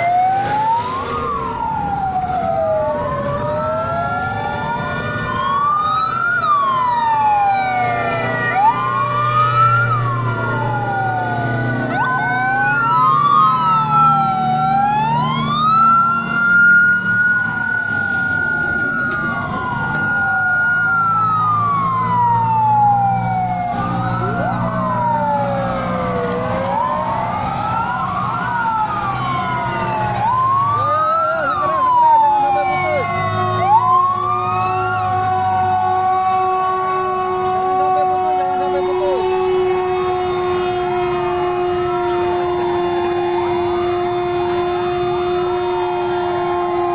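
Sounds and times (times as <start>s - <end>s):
police and fire sirens wailing: 0.0s - 46.9s.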